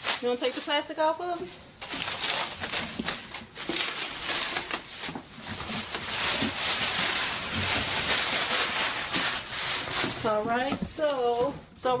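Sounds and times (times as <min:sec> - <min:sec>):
plastic wrap crinkling: 0:00.0 - 0:11.6.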